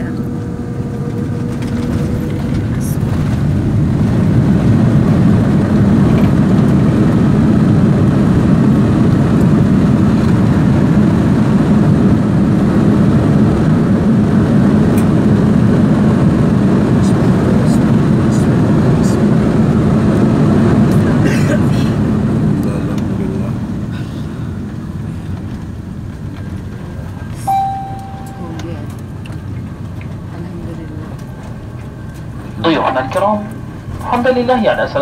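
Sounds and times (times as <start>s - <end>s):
jet engines and runway rumble: 0.0s - 35.0s.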